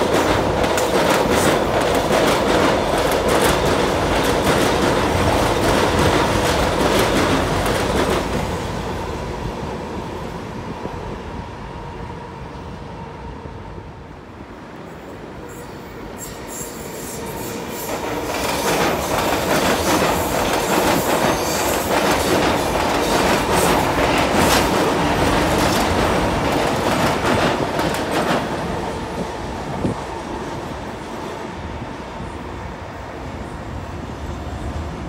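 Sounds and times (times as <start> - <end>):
electric train passing: 0.0 - 35.0.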